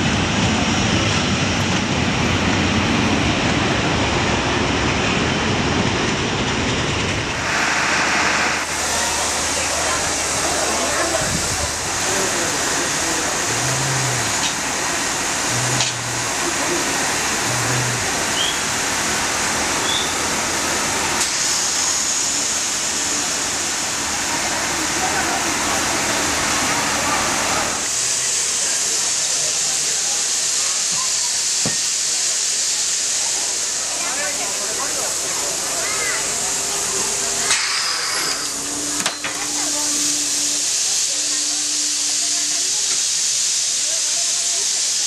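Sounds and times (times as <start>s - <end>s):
steam train rumbling on rails: 0.0s - 45.0s
steam hiss: 7.2s - 45.0s.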